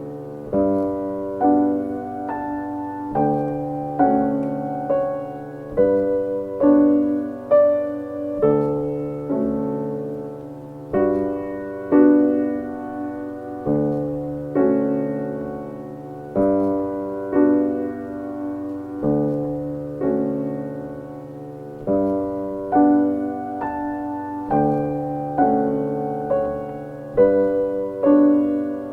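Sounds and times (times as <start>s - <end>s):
gentle piano music: 0.0s - 28.9s.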